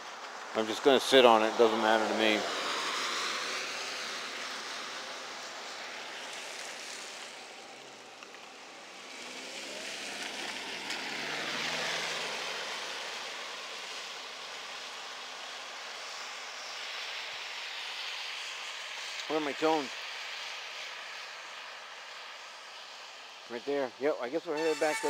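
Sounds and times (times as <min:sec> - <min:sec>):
vehicle passing on wet road: 0:00.0 - 0:23.4.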